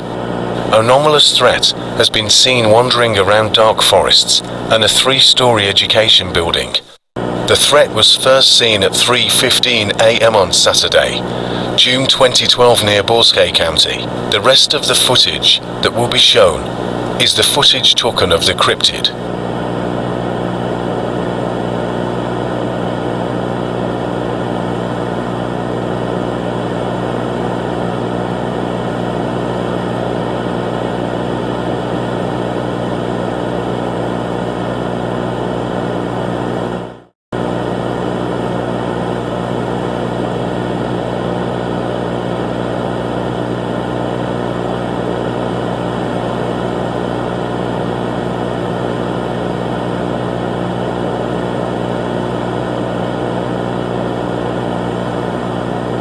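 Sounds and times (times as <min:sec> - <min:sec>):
loud droning hum: 0:00.0 - 0:56.0.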